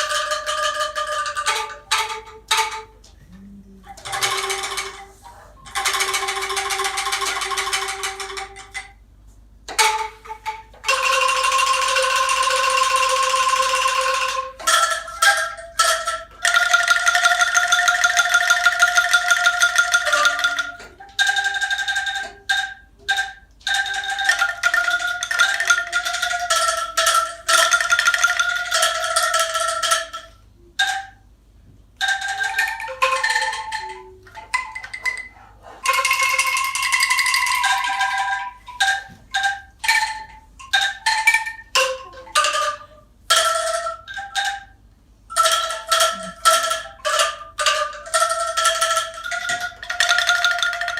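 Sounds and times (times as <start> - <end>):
mallet percussion strikes: 0.0 - 9.0, 9.7 - 31.2, 32.0 - 50.9.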